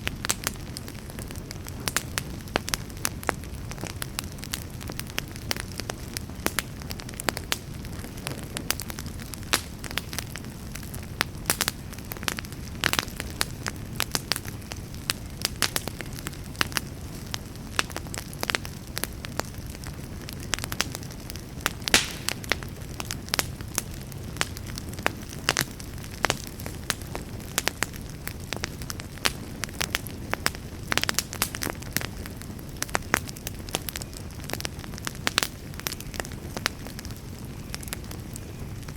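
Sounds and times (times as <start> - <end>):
fire flames rumbling: 0.0 - 38.9
wood fire crackling and popping: 0.0 - 38.9.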